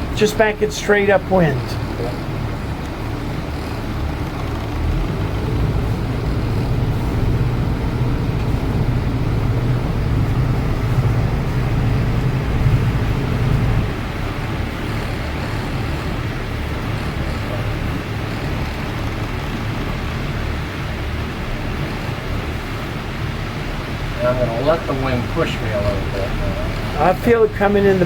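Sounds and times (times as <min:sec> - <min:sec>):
boat engines humming: 0:00.0 - 0:28.0.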